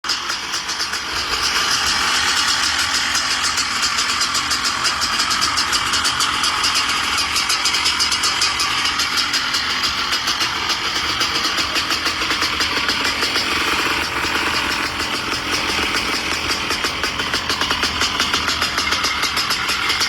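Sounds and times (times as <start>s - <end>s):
two-stroke motorcycle engine running: 0.0s - 20.0s.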